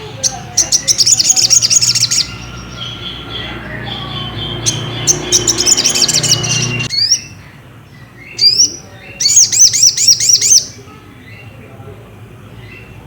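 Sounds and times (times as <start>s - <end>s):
sunbird chirping: 0.0s - 11.7s.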